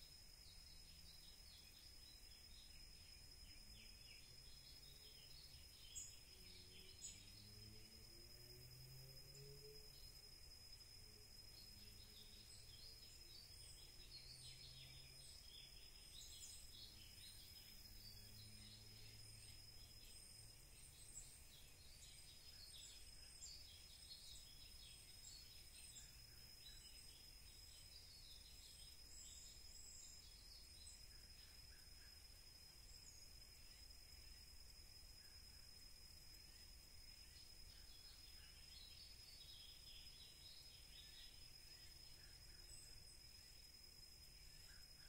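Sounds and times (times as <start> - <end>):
faint low hum: 0.0 - 45.0.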